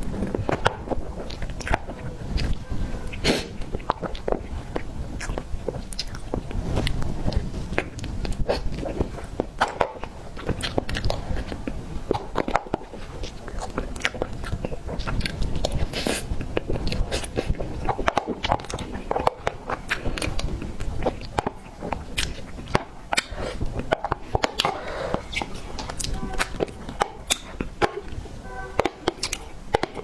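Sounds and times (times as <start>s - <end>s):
chewing soft cake: 0.0s - 30.0s
mouth clicks and smacks: 0.0s - 30.0s.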